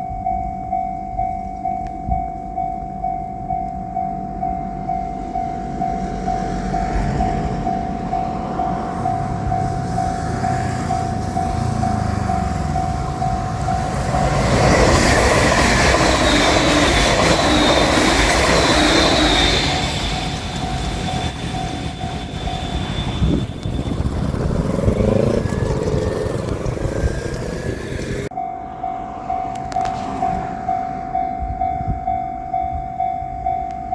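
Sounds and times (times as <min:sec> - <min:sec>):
crossing warning bell ringing: 0:00.0 - 0:33.9
electric train passing: 0:00.0 - 0:33.9
high wheel squeal: 0:05.1 - 0:32.9.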